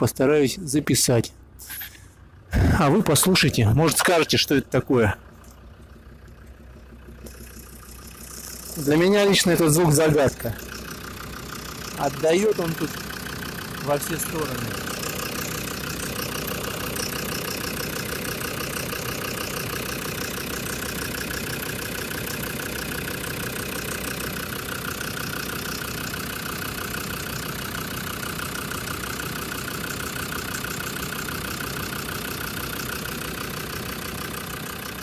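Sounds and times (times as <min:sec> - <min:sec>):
diesel engine idling with knock: 0:00.0 - 0:35.0.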